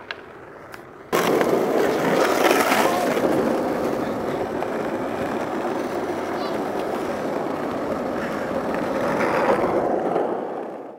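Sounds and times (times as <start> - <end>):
skateboard wheels rolling on asphalt: 0.0 - 10.9.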